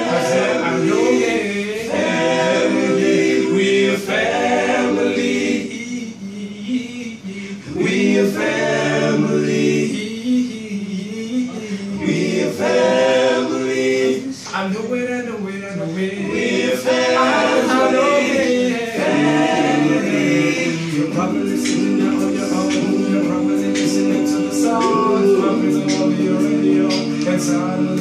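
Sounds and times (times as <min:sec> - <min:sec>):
male voices singing in harmony: 0:00.0 - 0:14.7, 0:15.3 - 0:28.0.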